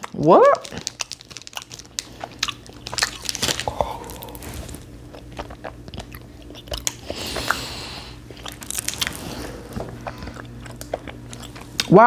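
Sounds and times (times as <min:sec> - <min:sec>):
gum chewing mouth smacks: 0:00.0 - 0:12.0.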